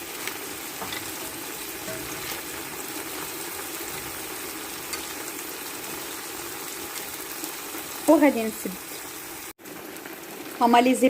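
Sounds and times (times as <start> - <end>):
seafood sizzling and bubbling in a pan: 0.0 - 11.0.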